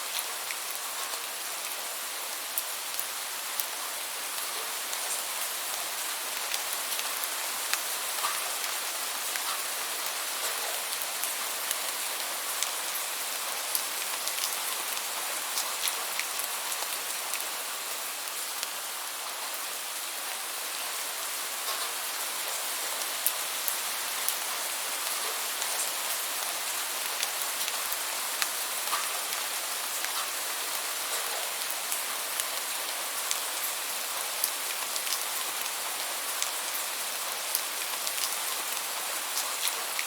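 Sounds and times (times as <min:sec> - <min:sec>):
raindrops ticking on a surface: 0:00.0 - 0:40.0.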